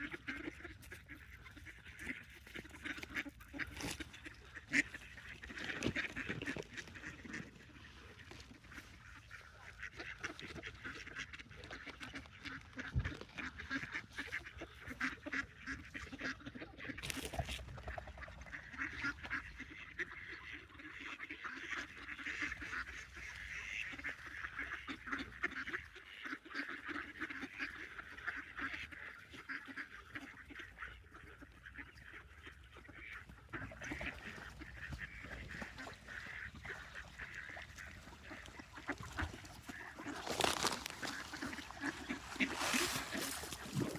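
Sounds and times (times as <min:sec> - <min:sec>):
ducks quacking and honking: 0:00.0 - 0:43.9.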